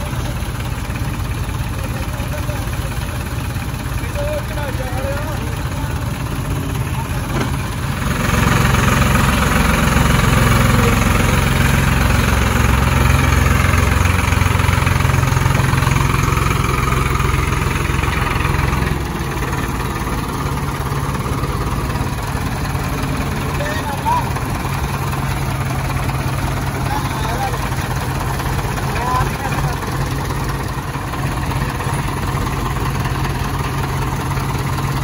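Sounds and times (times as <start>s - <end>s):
diesel tractor engines running hard: 0.0s - 35.0s.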